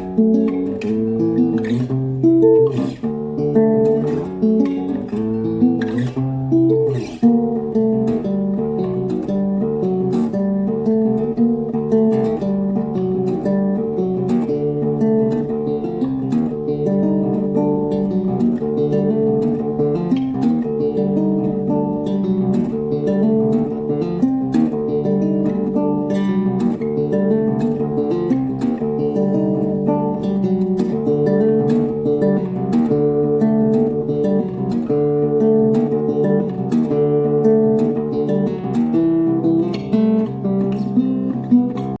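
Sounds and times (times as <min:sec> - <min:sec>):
acoustic guitar plucked: 0:00.0 - 0:42.0.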